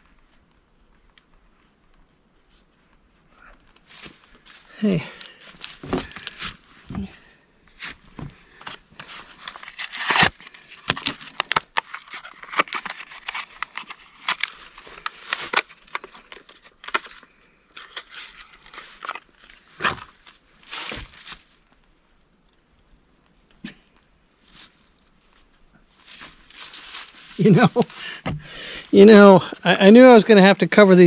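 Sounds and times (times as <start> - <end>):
crinkly rustling: 0.0 - 7.0, 7.7 - 31.0.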